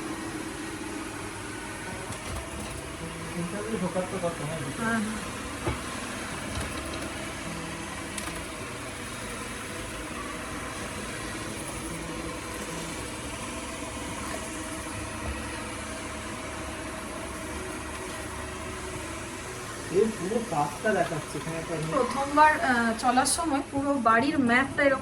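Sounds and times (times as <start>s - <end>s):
robot vacuum cleaner running: 0.0s - 25.0s.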